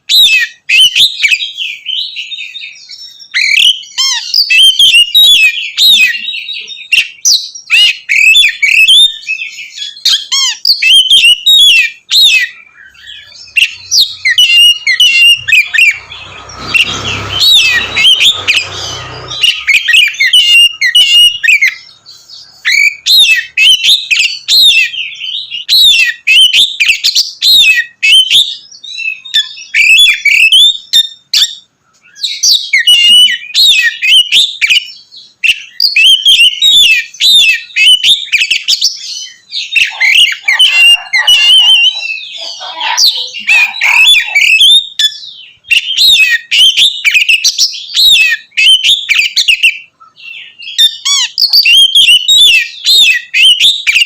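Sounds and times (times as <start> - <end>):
bird singing whistled phrases: 0.0 - 54.0.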